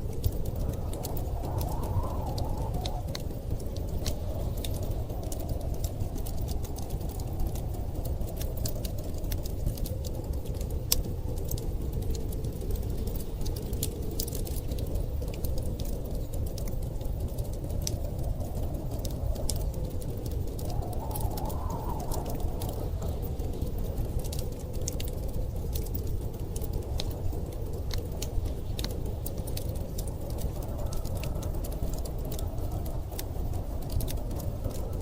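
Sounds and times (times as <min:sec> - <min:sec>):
low rumble of storm wind: 0:00.0 - 0:35.0
wood fire crackling: 0:00.0 - 0:35.0.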